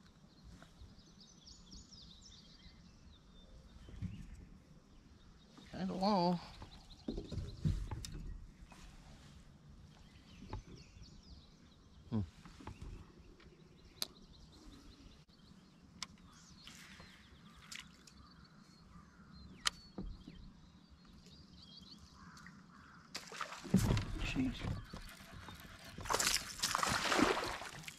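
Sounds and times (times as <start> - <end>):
small birds chirping: 0.3 - 23.2, 23.8 - 27.8.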